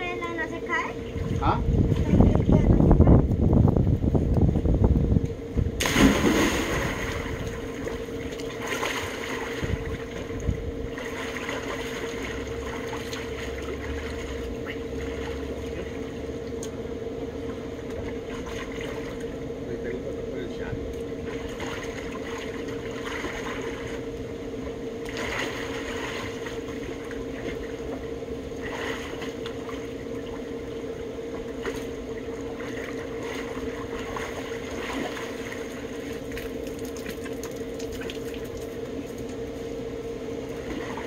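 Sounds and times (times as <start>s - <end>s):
steady mechanical hum: 0.0s - 41.0s
pool water splashing: 5.8s - 19.5s, 21.1s - 41.0s.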